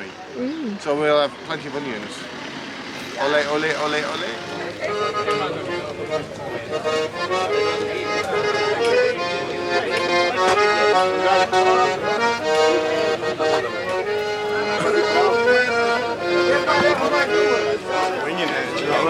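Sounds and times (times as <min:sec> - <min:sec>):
accordion playing a tune: 0:00.0 - 0:00.8, 0:01.8 - 0:19.0.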